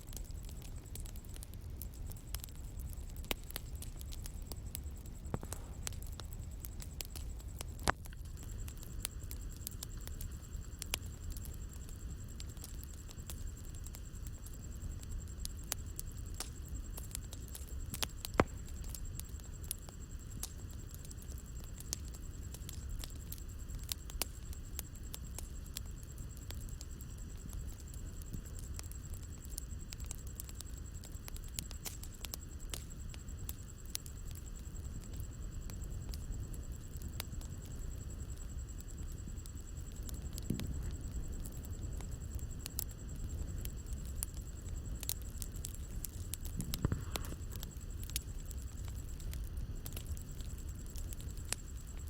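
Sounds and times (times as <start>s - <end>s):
bonfire crackling and popping: 0.0s - 52.0s
low rumble of fire: 0.0s - 52.0s.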